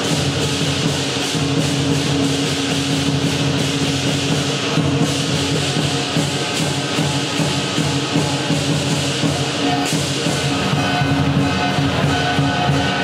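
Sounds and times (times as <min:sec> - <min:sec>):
drum cymbals and gong percussion: 0:00.0 - 0:13.0.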